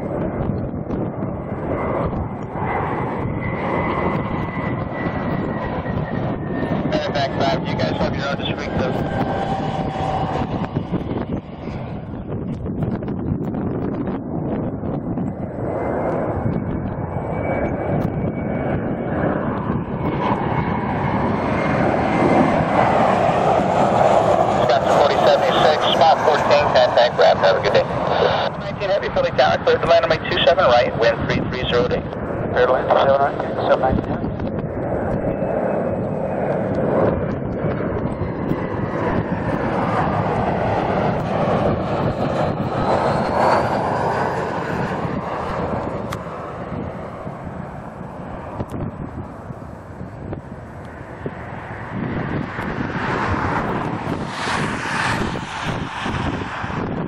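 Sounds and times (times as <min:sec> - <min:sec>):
airliner engines roaring: 0:00.0 - 0:57.0.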